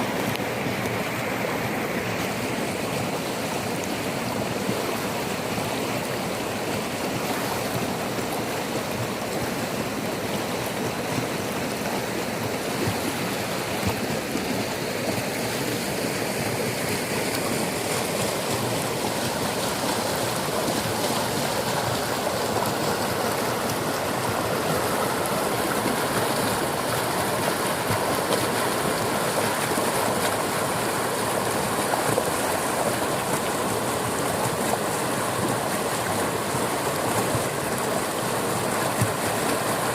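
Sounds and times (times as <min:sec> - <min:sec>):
rushing floodwater: 0:00.0 - 0:39.9.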